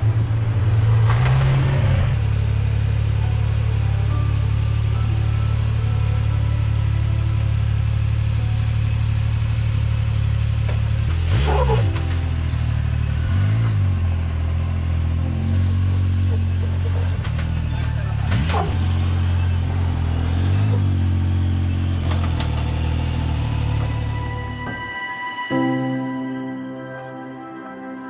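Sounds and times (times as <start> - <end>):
buggy engine revving: 0.0 - 24.8.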